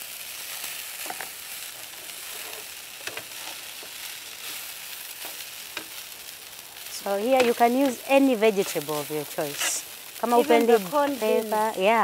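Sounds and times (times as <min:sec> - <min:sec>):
stir-frying sizzle: 0:00.0 - 0:12.0
spatula scraping a wok: 0:00.4 - 0:06.2, 0:06.8 - 0:11.2.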